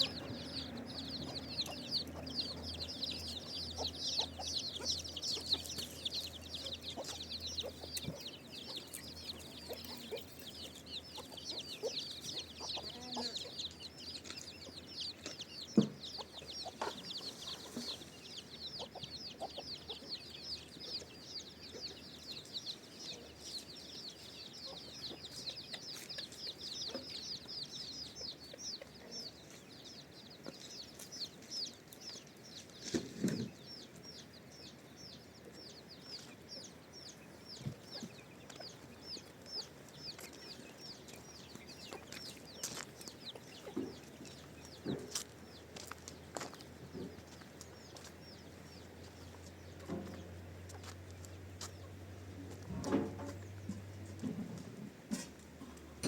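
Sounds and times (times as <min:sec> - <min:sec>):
high chirping bird calls: 0:00.0 - 0:50.4.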